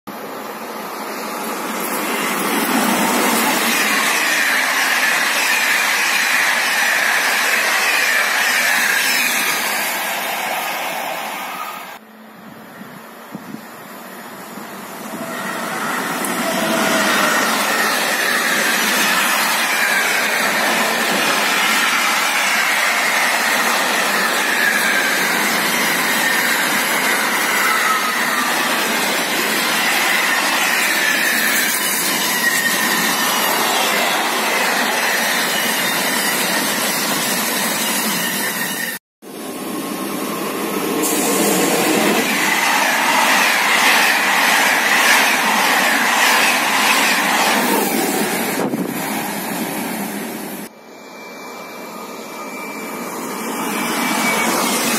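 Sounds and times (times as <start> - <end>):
passenger train passing: 0.1 - 54.9
freight train wheels rolling: 1.0 - 12.0, 14.6 - 39.0, 39.8 - 50.7.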